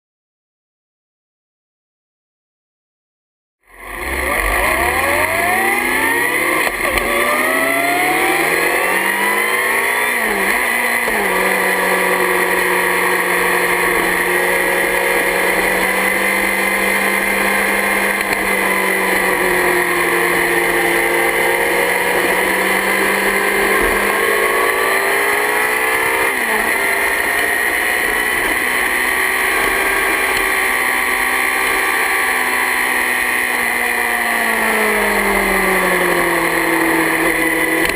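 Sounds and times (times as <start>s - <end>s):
motorcycle engine revving: 3.6s - 37.9s.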